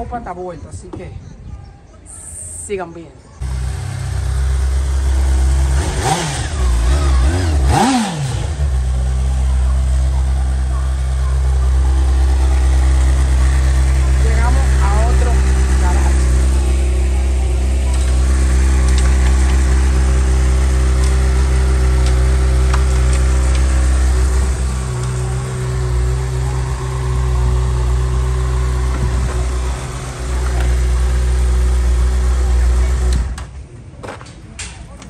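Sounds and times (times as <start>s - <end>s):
motorcycle engine idling: 3.4s - 33.6s.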